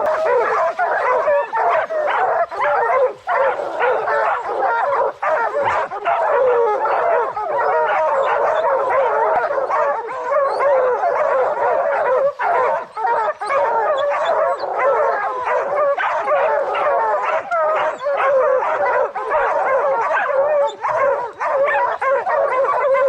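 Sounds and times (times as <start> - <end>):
hounds baying: 0.0 - 23.0.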